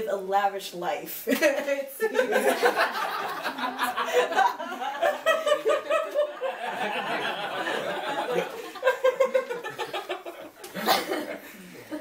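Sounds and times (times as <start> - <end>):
people laughing: 1.3 - 12.0.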